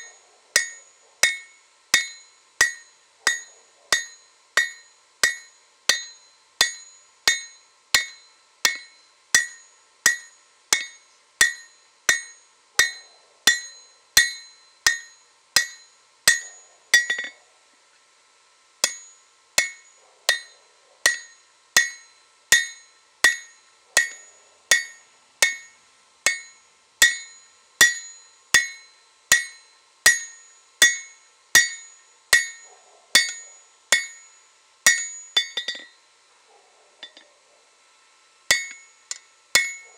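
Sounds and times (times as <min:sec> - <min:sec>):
hammer striking metal on anvil: 0:00.0 - 0:17.4, 0:18.8 - 0:36.0, 0:37.0 - 0:37.3, 0:38.5 - 0:39.9.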